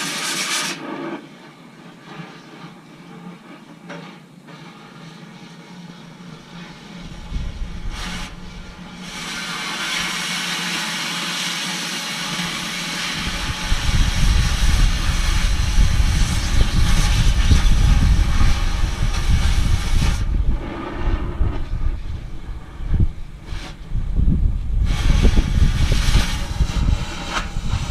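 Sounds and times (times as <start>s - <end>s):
hissing rush of metal cutting: 0.0s - 1.3s, 4.5s - 23.9s, 24.8s - 27.9s.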